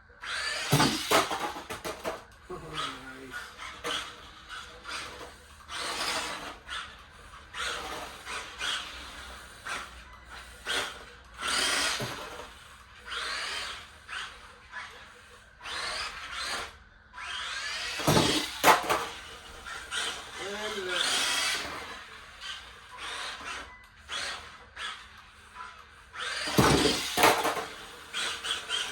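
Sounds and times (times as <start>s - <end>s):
toy car electric motor whining: 0.0s - 28.9s.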